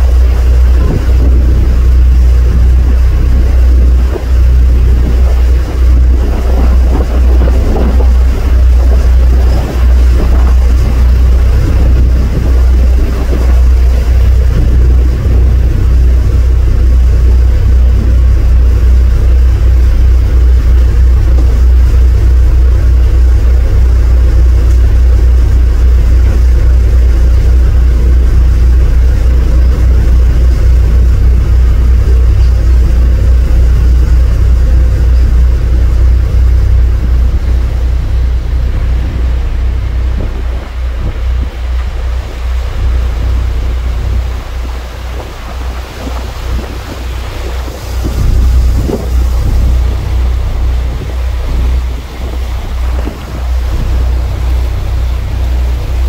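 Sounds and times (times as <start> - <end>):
boat engine low rumble: 0.0 - 56.0
wind buffeting microphone: 0.0 - 56.0.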